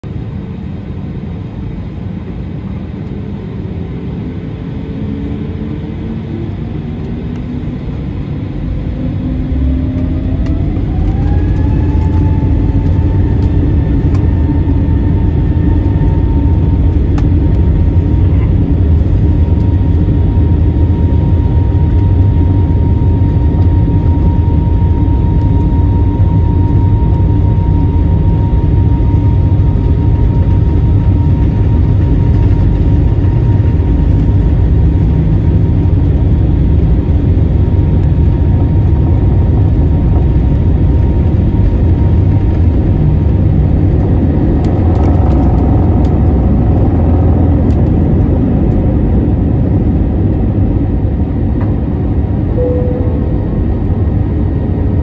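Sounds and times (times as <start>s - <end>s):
jet engines spooling up: 4.2s - 55.0s.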